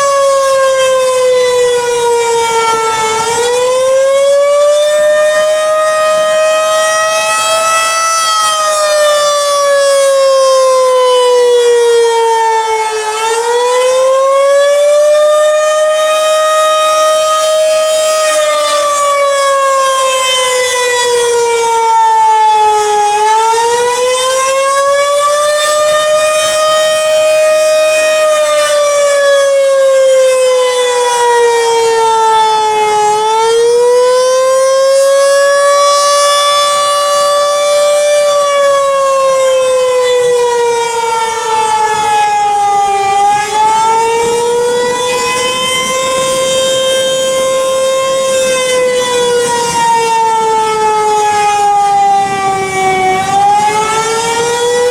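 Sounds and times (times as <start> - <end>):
warning siren wailing: 0.0 - 54.9.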